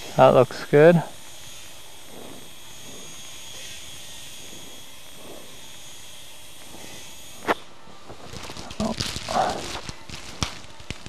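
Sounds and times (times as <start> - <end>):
equipment hiss with high whine: 0.0 - 11.0.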